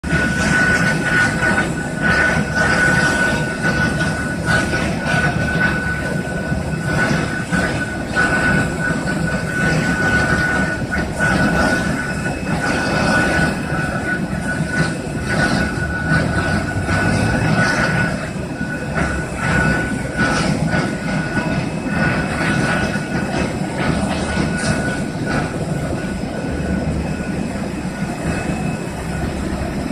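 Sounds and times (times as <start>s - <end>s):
aircraft pushback rumble: 0.0s - 29.9s
high whine: 0.0s - 29.9s.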